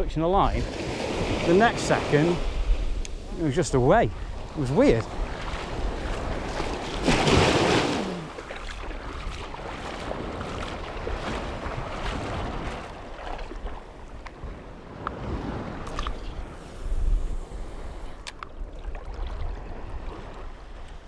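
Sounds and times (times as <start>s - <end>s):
sea surf lapping: 0.0s - 21.0s
wind buffeting microphone: 0.0s - 21.0s.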